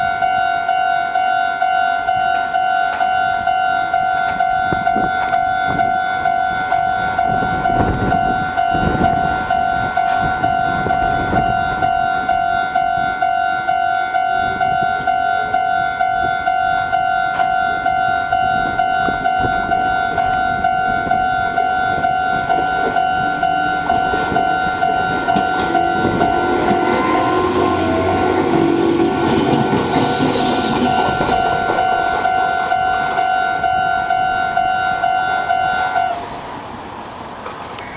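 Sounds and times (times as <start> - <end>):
level crossing alarm bell: 0.0 - 36.3
train rumble and wheel clicks: 0.0 - 37.9.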